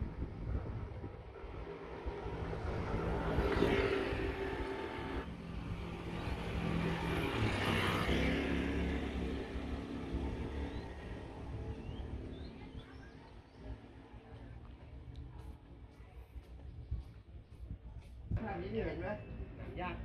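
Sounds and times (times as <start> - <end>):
vehicle engines passing: 0.0 - 16.8.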